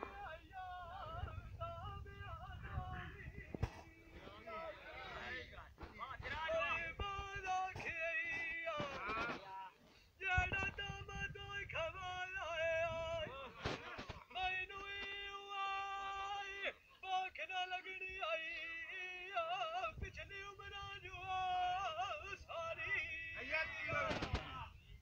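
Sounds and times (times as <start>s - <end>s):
man singing folk verses unaccompanied: 0.0s - 4.8s, 5.5s - 24.3s.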